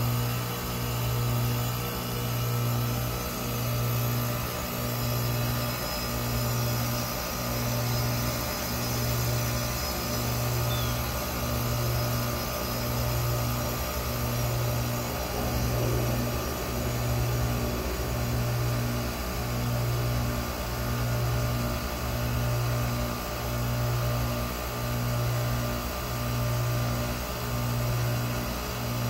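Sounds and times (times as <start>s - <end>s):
heat pump compressor hum: 0.0s - 29.0s.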